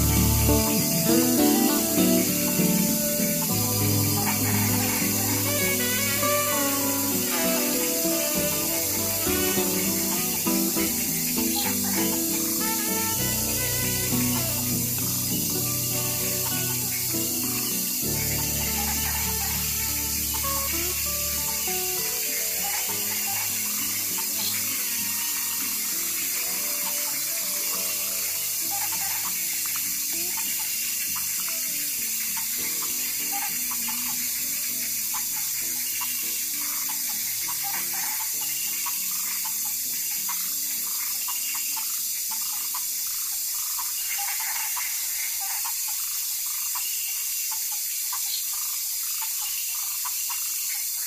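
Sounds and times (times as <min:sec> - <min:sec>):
soft background music: 0:00.0 - 0:43.2
steady hiss: 0:00.0 - 0:51.0.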